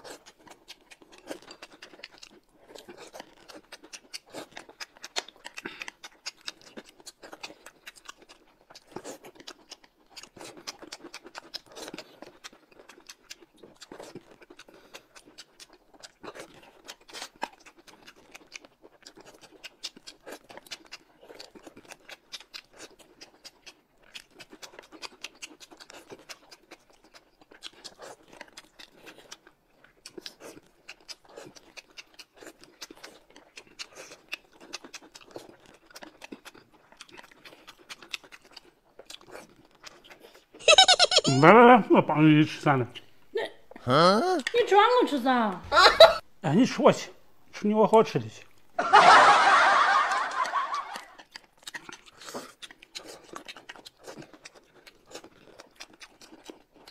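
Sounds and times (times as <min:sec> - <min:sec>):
people chewing food: 0:00.0 - 0:56.9.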